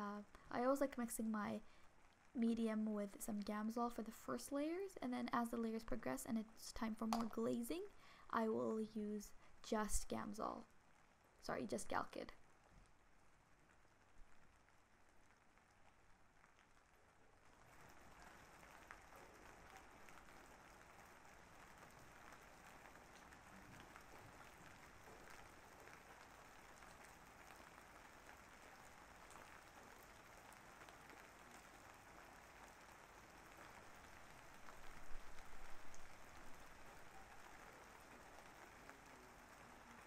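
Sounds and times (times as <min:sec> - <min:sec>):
rain patter: 0:00.0 - 0:40.0.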